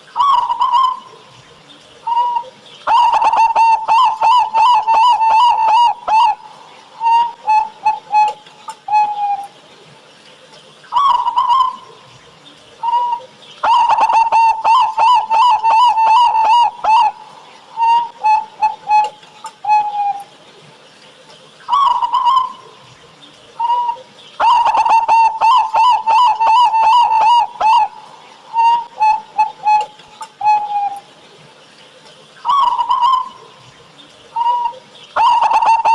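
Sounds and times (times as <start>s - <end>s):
doves cooing: 0.0s - 9.5s, 10.9s - 20.4s, 21.7s - 31.1s, 31.9s - 35.9s.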